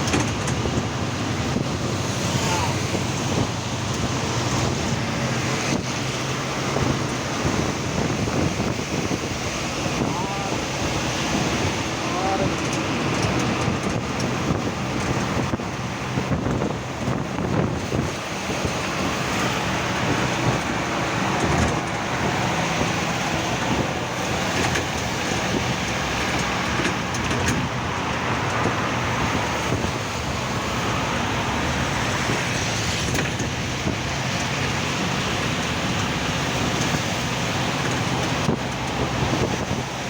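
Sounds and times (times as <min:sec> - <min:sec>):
low engine hum: 0:00.0 - 0:40.0
tyres hissing on wet road: 0:00.0 - 0:40.0.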